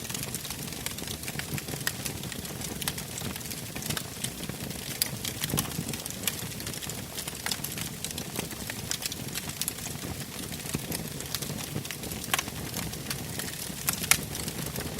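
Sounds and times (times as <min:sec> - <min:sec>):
wood fire crackling and popping: 0:00.0 - 0:14.9.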